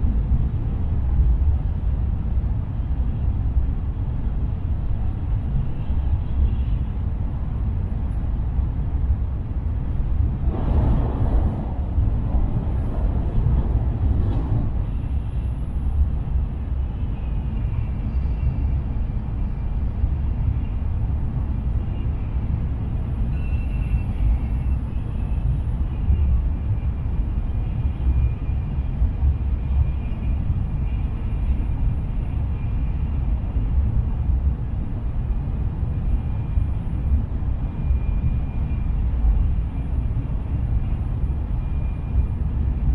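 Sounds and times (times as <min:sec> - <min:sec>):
train running at speed: 0:00.0 - 0:42.9.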